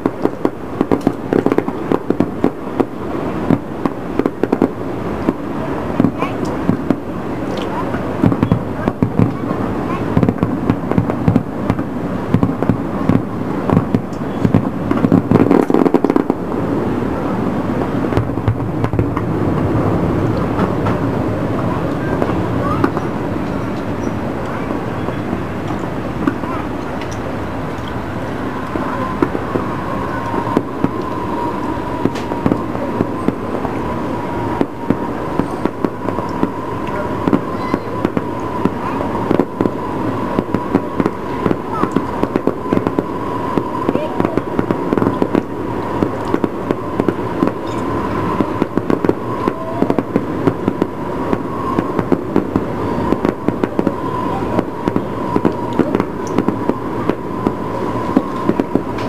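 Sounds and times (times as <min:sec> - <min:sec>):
fireworks bangs and crackles: 0:00.0 - 0:59.0
steady rumble: 0:00.0 - 0:59.0
steady high tone: 0:11.6 - 0:59.0.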